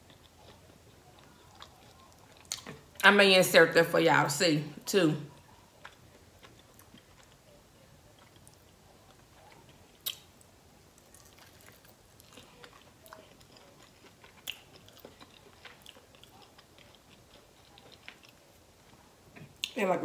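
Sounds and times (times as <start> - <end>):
chewing: 0.0 - 3.0, 5.3 - 19.8.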